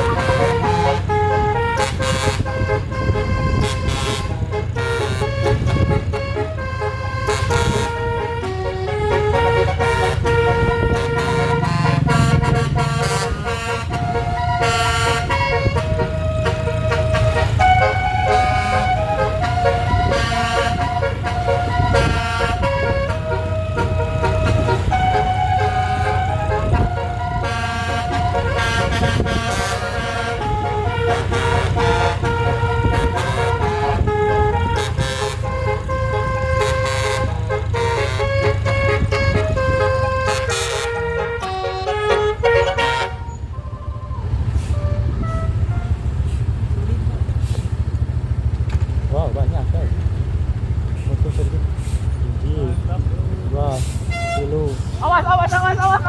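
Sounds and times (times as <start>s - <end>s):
musical air horn playing tune: 0.0s - 46.7s, 53.8s - 56.0s
bus engine rumble: 0.0s - 56.0s
traffic: 0.0s - 56.0s.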